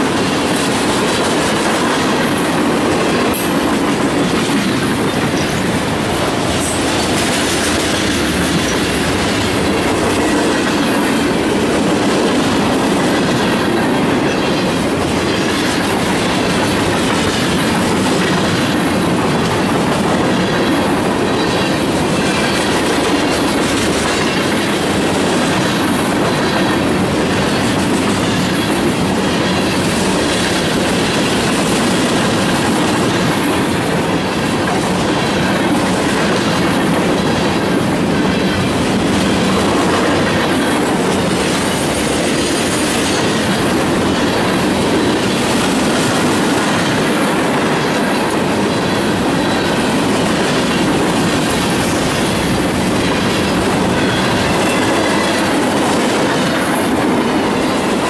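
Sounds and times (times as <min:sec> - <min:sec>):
clickety-clack over rail joints: 0:00.0 - 0:58.0
train wheels rolling on rails: 0:00.0 - 0:58.0.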